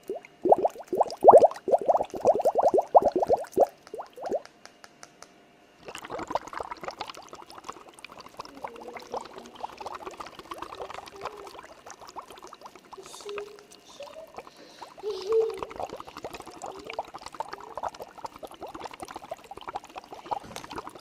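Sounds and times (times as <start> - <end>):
water trickling and dripping: 0.0 - 4.4, 5.8 - 21.0.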